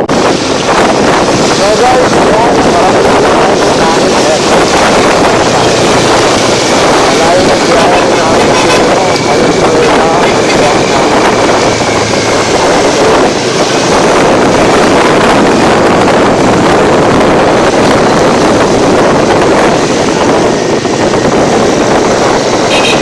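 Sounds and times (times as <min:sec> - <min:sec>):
motorcycle running: 0:00.0 - 0:23.0
wind rush on microphone: 0:00.0 - 0:23.0.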